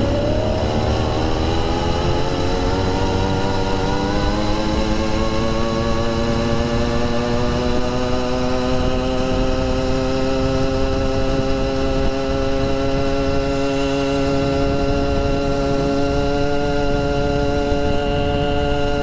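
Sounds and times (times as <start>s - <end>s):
two-stroke engine at high revs: 0.0s - 19.0s.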